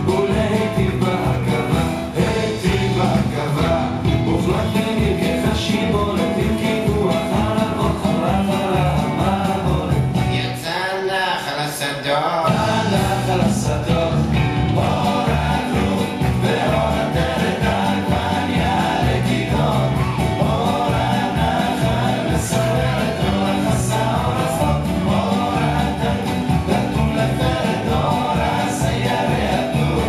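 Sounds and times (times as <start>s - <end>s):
music with singing voices: 0.0s - 30.0s.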